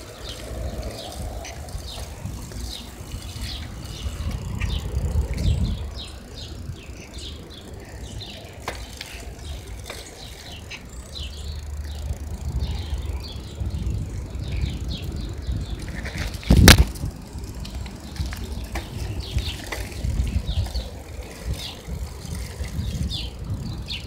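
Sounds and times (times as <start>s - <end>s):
small songbirds chirping: 0.0s - 24.0s
low microphone rumble: 0.2s - 24.0s.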